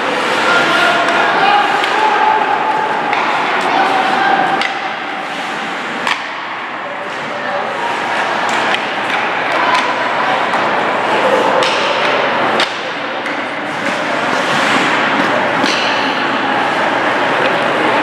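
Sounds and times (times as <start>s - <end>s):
hockey sticks and puck clacking: 0.0s - 18.0s
noisy arena: 0.0s - 18.0s.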